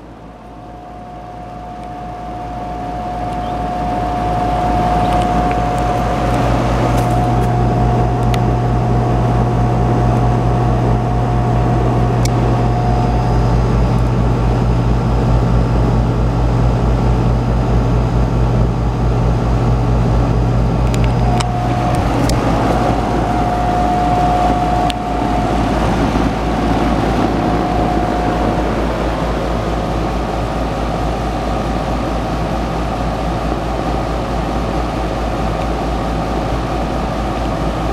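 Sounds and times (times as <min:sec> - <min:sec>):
heat pump humming: 0:00.0 - 0:37.9.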